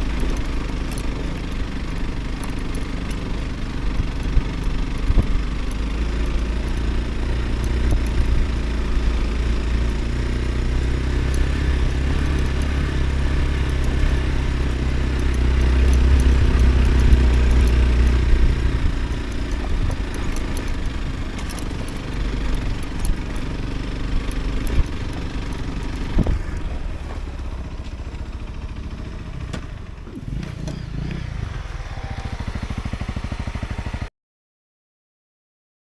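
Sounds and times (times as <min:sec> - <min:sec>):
motorcycle engine running: 0:00.0 - 0:34.1.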